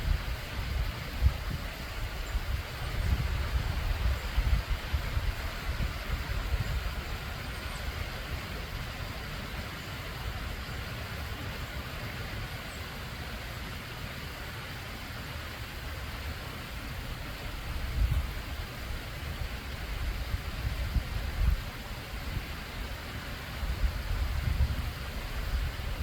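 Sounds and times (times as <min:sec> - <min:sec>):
stream water rushing and bubbling: 0:00.0 - 0:26.0.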